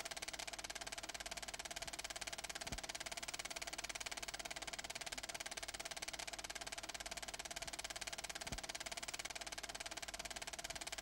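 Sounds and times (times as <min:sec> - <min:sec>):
fast mechanical rattle: 0:00.0 - 0:11.0.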